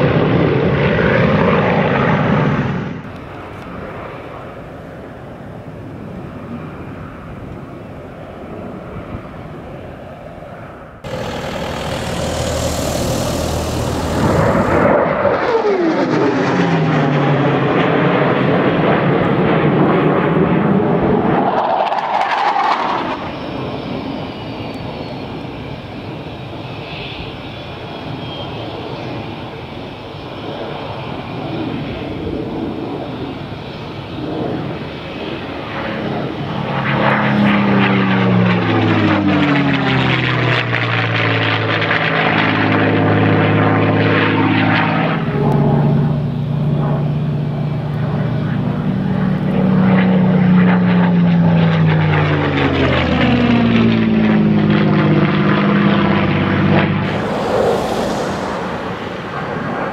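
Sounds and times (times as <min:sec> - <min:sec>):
fighter jet engines climbing: 0:00.0 - 0:26.6, 0:27.2 - 0:59.9
piston engine plane passing overhead: 0:00.0 - 0:59.9
steady aircraft engine drone: 0:00.0 - 0:59.9.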